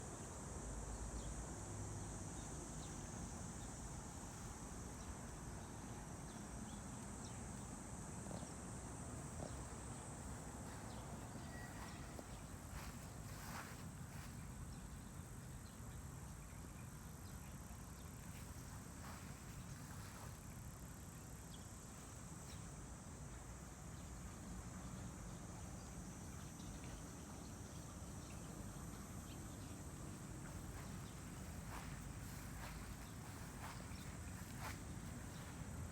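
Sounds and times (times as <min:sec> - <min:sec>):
insects trilling: 0:00.6 - 0:35.9.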